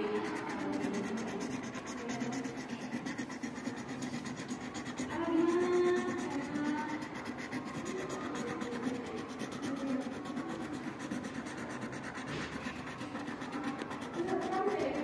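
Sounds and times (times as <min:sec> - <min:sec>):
marker scratching on paper: 0:00.0 - 0:15.0.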